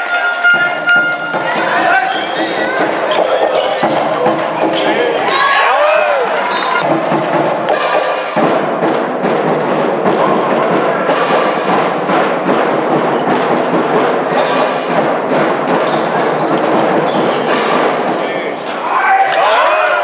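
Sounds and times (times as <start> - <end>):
loud music with drumming: 0.0 - 5.8, 6.8 - 18.6.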